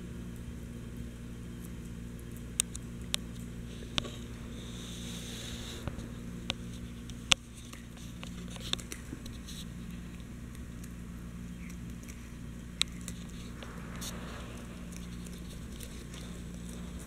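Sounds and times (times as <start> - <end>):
dog gnawing a chew bone: 0.6 - 17.0.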